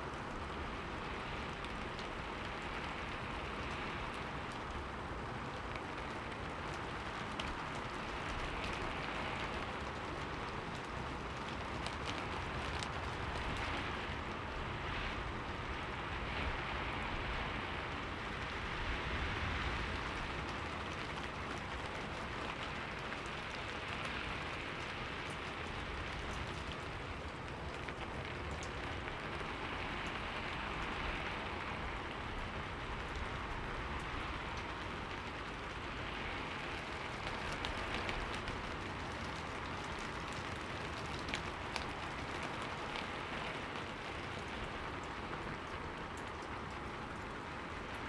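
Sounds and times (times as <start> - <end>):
rain on a window pane: 0.0 - 48.0.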